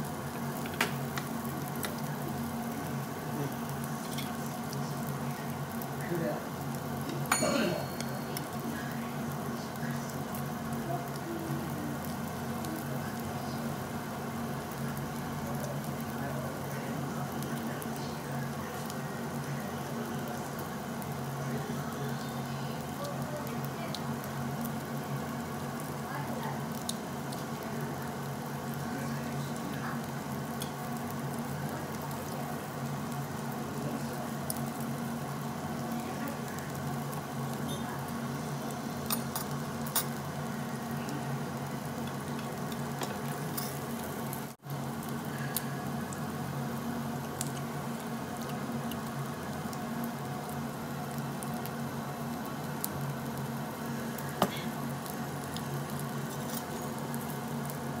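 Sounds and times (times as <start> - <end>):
low steady hum: 0.0 - 58.0
meat sizzling on grill: 0.0 - 58.0.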